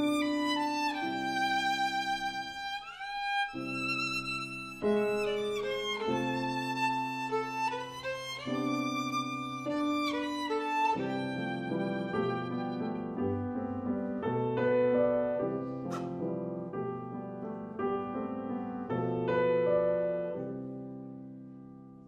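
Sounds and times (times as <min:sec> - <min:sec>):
violin melody: 0:00.0 - 0:20.8.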